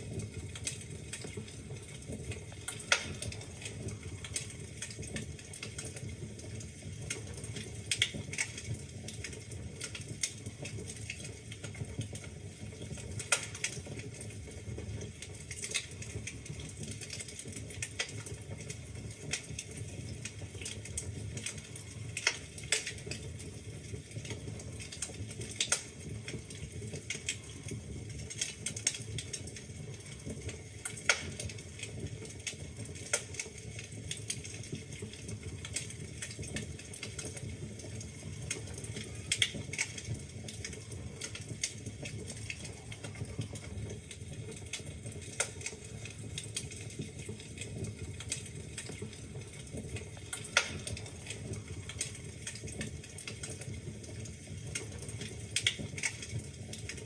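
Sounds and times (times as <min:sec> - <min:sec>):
fireplace fire rumbling: 0:00.0 - 0:57.0
logs crackling and popping: 0:00.0 - 0:57.0.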